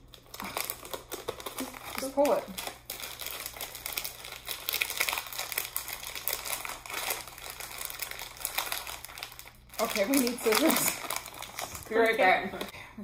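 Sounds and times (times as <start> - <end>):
plastic snack bag crinkling: 0.0 - 12.7.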